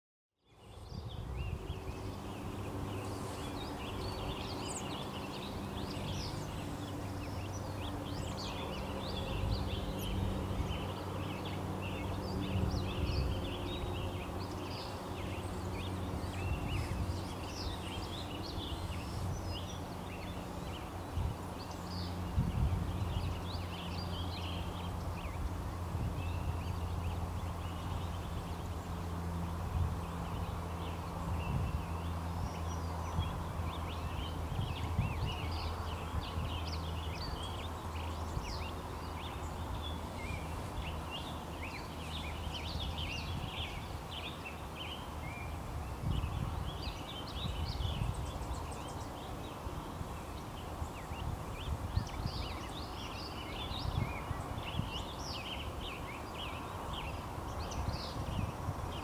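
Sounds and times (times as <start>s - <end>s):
birds chirping: 0.4s - 59.0s.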